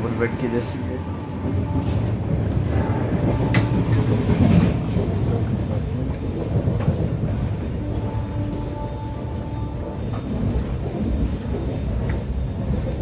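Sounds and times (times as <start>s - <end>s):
rail clicks and knocks: 0.0s - 13.0s
train coach rumbling: 0.0s - 13.0s.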